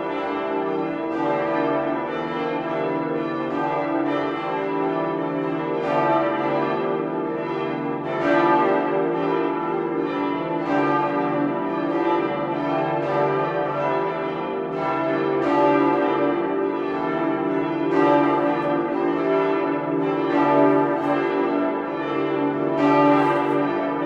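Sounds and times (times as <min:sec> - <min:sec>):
church bells pealing: 0:00.0 - 0:24.0.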